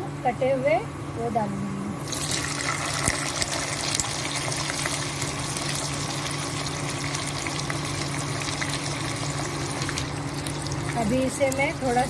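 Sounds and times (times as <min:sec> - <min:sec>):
onions sizzling in oil: 0:02.0 - 0:12.0.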